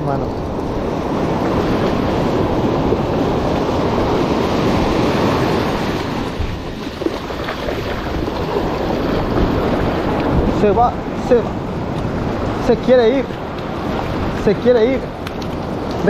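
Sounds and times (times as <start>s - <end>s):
waves breaking on beach: 0.0s - 16.0s
wind on microphone: 0.0s - 16.0s.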